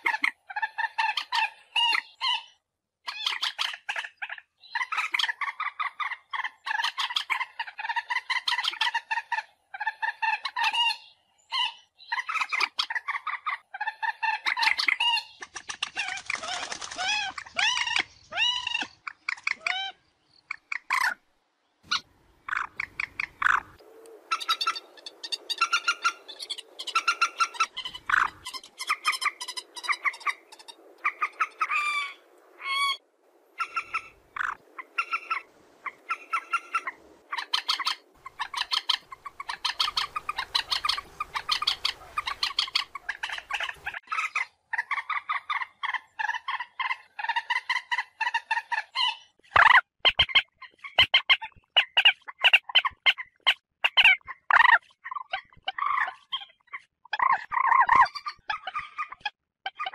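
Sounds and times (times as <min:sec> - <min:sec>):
moorhen chattering calls: 0:03.1 - 0:21.2, 0:21.9 - 0:33.0, 0:33.6 - 0:59.9.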